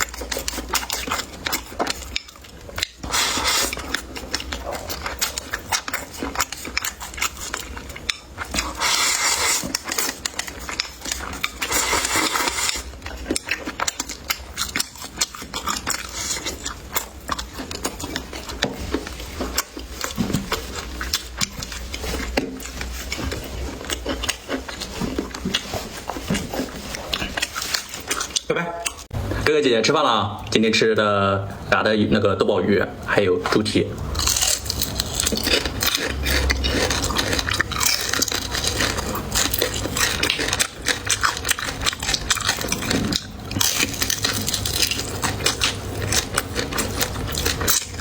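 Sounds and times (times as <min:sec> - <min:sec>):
utensils clicking against bowls: 0:00.0 - 0:29.1, 0:33.5 - 0:48.0
chewing: 0:00.0 - 0:29.4, 0:33.4 - 0:48.0.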